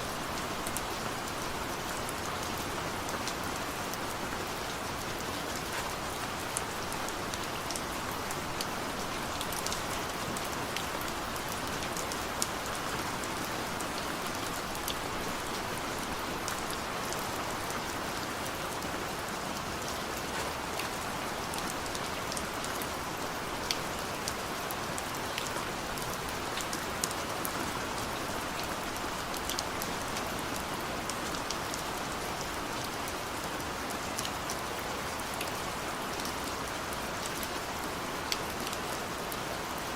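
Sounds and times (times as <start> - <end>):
heavy rain falling: 0.0 - 39.9
ticks of raindrops: 0.0 - 39.9.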